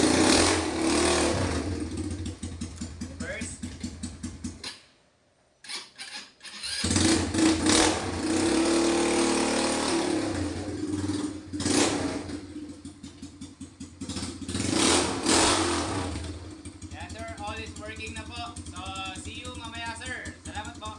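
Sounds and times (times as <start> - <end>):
quad bike engine revving: 0.0 - 4.7, 5.7 - 20.9.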